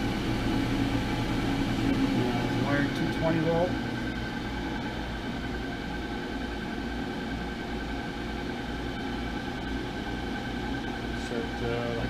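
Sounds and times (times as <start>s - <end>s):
grinder motor hum: 0.0s - 12.0s
thin steady whine: 0.0s - 12.0s.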